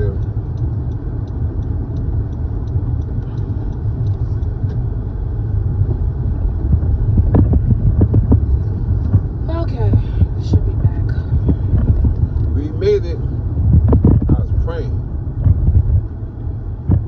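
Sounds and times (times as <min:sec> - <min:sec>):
car engine and tyre rumble: 0:00.0 - 0:17.0
turn signal ticking: 0:00.0 - 0:17.0.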